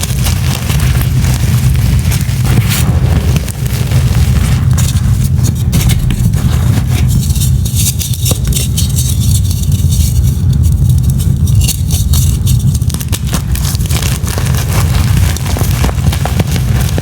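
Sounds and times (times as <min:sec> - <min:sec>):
chalk crunching and crackling: 0:00.0 - 0:17.0
steady low rumble: 0:00.0 - 0:17.0.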